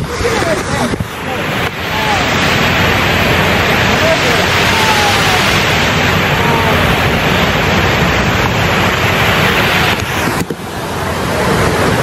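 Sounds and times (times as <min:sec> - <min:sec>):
fountain water spray rushing: 0:00.0 - 0:12.0.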